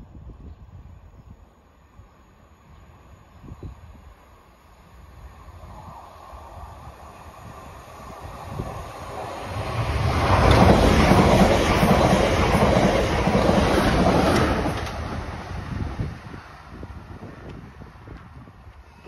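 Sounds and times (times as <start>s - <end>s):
electric train passing: 1.6s - 19.0s.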